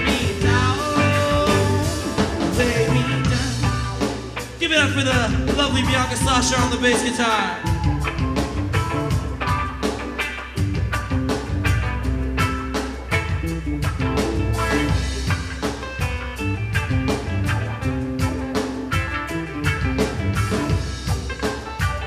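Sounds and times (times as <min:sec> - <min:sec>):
bass guitar: 0:00.0 - 0:22.0
drum kit beat: 0:00.0 - 0:22.0
electric guitar: 0:00.0 - 0:22.0.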